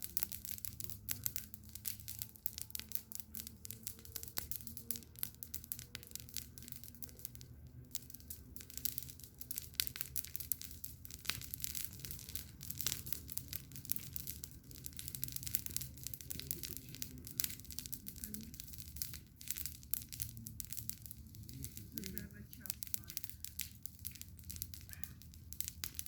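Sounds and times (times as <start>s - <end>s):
low steady fire rumble: 0.0s - 26.0s
wood crackling and popping: 0.0s - 26.0s.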